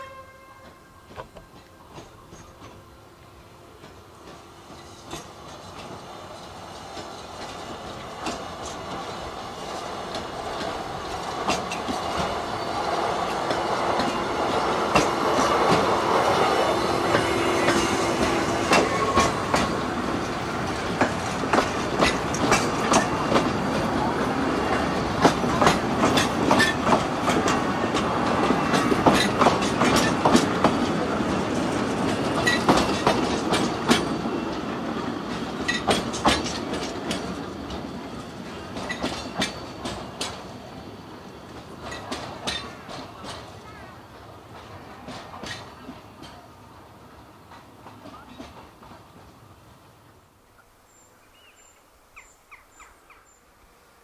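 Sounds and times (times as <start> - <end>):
locomotive hum: 0.0 - 50.8
train passing: 0.0 - 54.0
wheels clacking over rail joints: 0.6 - 2.9, 3.7 - 49.5.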